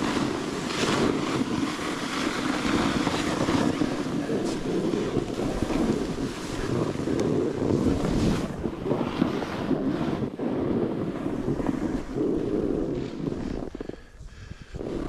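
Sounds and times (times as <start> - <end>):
snowboard scraping over snow: 0.0 - 14.2, 14.8 - 15.0
wind buffeting microphone: 0.0 - 15.0.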